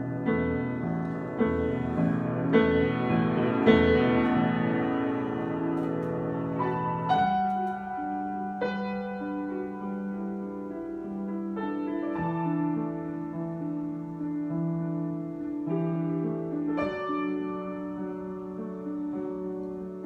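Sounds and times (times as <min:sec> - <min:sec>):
solo piano playing slow chords: 0:00.0 - 0:20.0.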